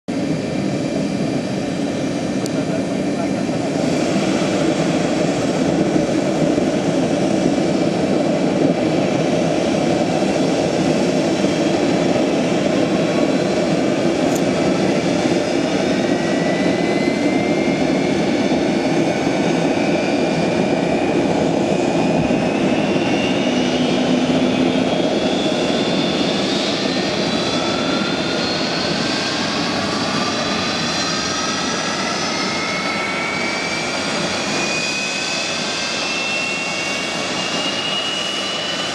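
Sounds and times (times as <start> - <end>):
jet engine roar: 0.1 - 38.9
turbofan whines rising in pitch: 0.1 - 38.9.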